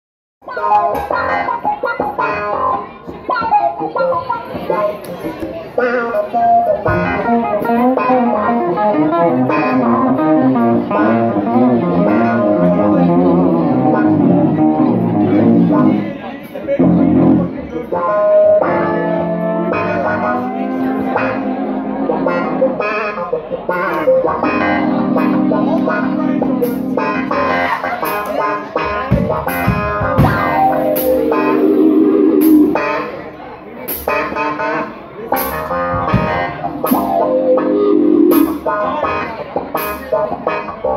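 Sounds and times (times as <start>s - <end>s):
bass guitar: 0.4s - 40.9s
electric guitar lines: 0.4s - 40.9s.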